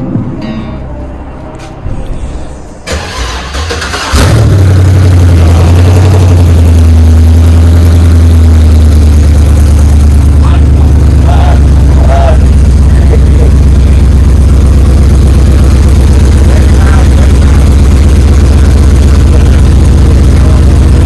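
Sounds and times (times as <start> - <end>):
car engine cranking and idling: 2.8 - 21.0.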